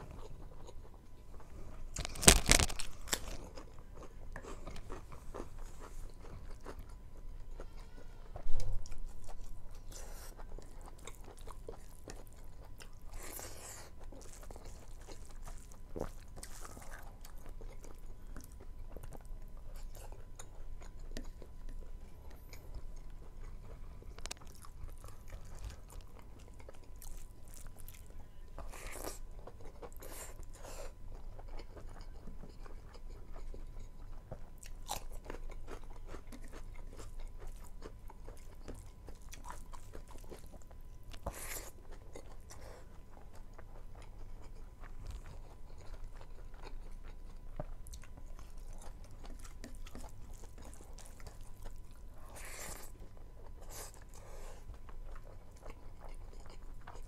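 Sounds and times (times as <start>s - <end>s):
person chewing with mouth smacks: 0.0s - 57.0s.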